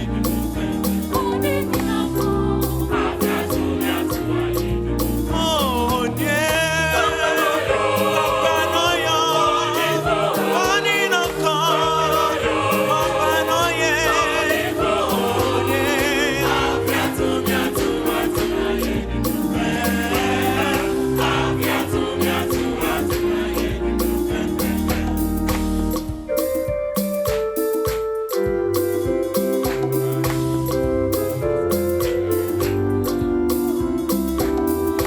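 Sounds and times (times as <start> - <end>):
gospel choir singing: 0.0 - 26.5, 29.3 - 35.0
band with bass and keyboard: 0.0 - 35.0.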